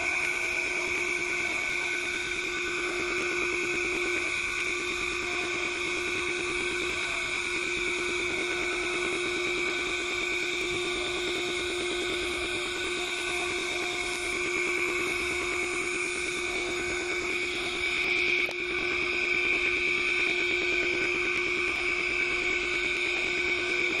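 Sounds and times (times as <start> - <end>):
vacuum suction motor whine: 0.0 - 24.0.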